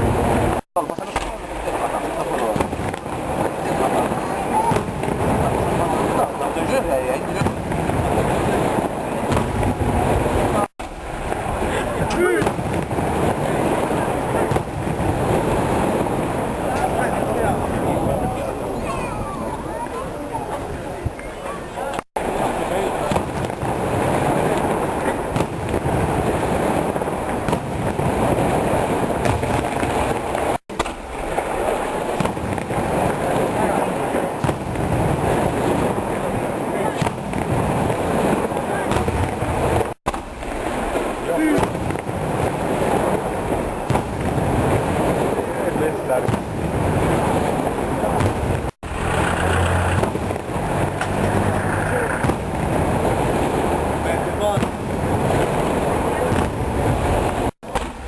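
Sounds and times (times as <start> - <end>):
fireworks bangs: 0.0 - 21.2, 21.8 - 58.0
fireworks crackling and popping: 0.0 - 21.2, 21.8 - 58.0.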